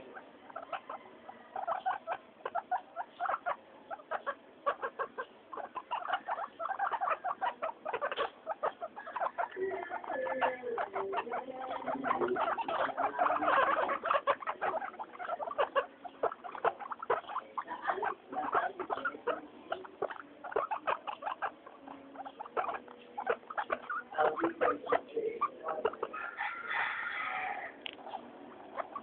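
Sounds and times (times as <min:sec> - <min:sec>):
guinea pigs squeaking: 0:00.0 - 0:29.0.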